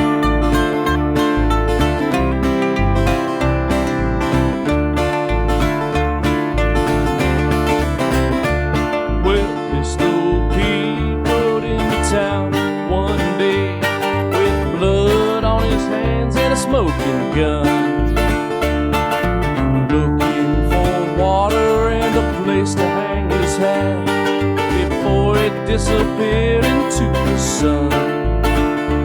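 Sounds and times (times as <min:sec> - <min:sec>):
bouncing bass beat: 0:00.0 - 0:29.0
plucked acoustic guitar: 0:00.0 - 0:29.0
sliding lead guitar line: 0:00.0 - 0:29.0.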